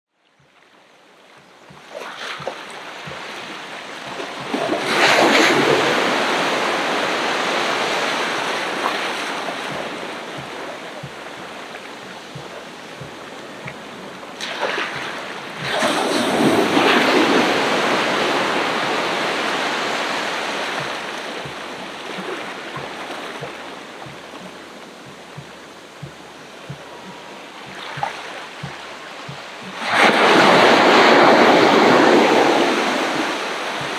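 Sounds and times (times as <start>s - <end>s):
ocean waves breaking on beach: 0.4s - 33.9s.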